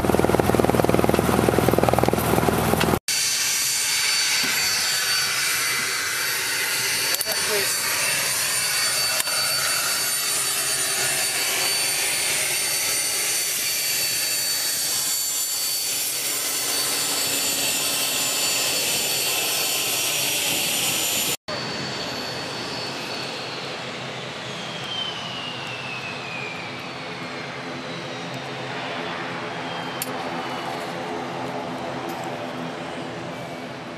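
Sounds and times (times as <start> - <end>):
jet engines taxiing: 0.0 - 33.9
light aircraft engine and propeller: 0.0 - 33.9
turbine whine: 0.0 - 33.9.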